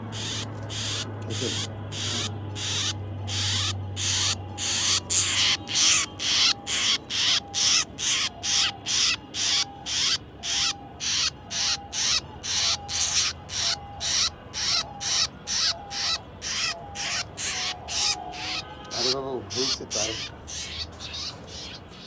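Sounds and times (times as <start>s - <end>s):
bird giving rasping calls: 0.0s - 22.0s.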